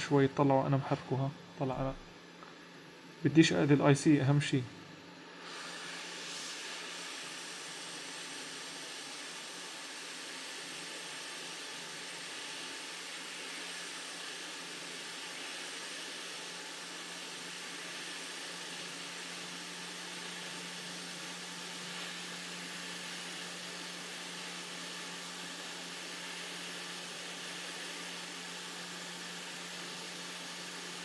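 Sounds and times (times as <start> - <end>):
hot air station hissing: 5.4 - 31.0.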